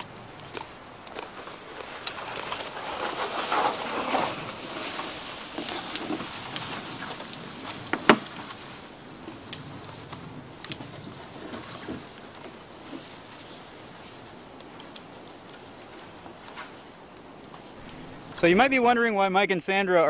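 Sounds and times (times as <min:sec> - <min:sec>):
footsteps crunching through dry leaves: 0:00.0 - 0:17.0.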